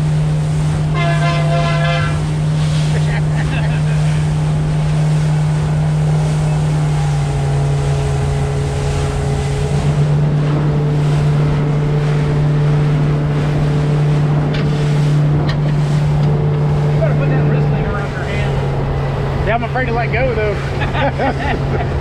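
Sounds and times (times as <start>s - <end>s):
wind on microphone: 0.0s - 19.5s
outboard motor running: 0.0s - 22.0s
water rushing past hull: 0.0s - 22.0s.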